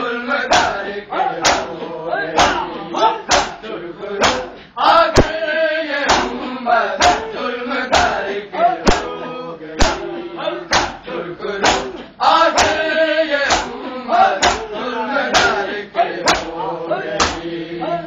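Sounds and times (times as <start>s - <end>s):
men chanting: 0.0s - 18.0s
men beating chests in unison: 0.5s - 7.3s, 7.9s - 9.2s, 9.8s - 17.6s.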